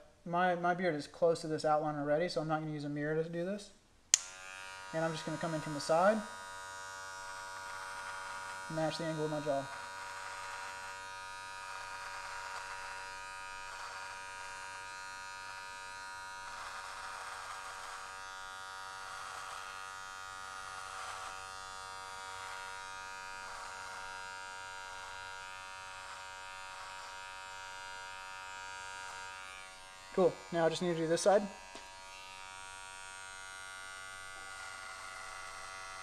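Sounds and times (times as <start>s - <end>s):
hair clipper buzzing: 4.1s - 36.0s.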